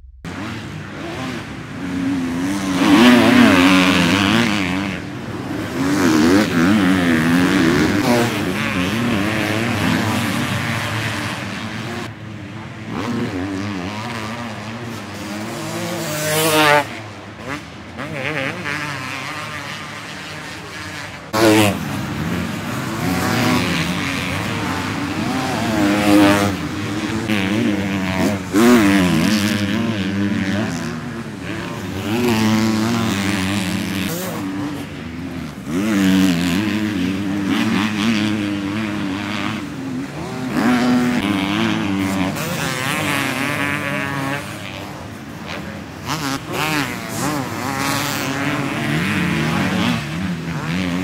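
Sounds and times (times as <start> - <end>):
motocross bikes revving: 0.3 - 51.0.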